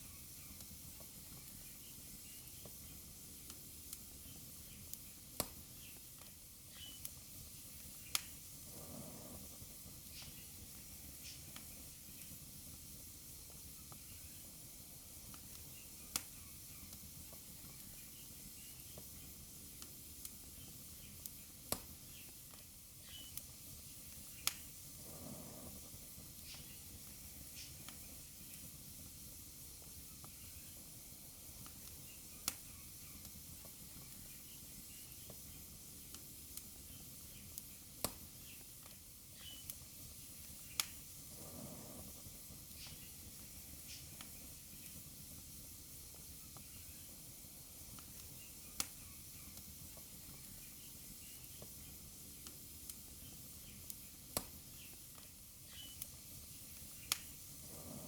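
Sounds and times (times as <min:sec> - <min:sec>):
faint steady fire hiss: 0:00.0 - 0:58.0
wood fire crackling and popping: 0:00.0 - 0:58.0.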